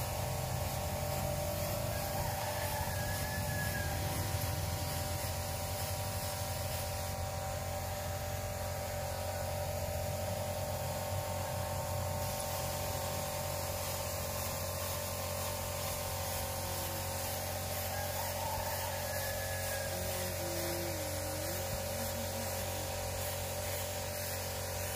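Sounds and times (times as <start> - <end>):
even hiss: 0.0 - 24.9
motor running steadily: 0.0 - 24.9.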